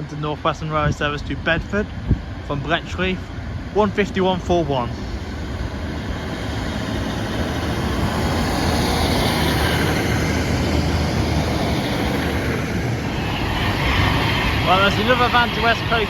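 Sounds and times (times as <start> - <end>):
train rushing rumble: 0.0 - 16.0
low hum: 2.0 - 16.0.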